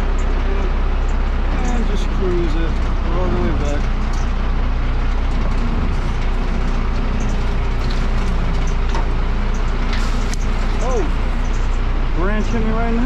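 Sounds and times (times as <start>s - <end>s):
heavy engine droning: 0.0s - 13.0s.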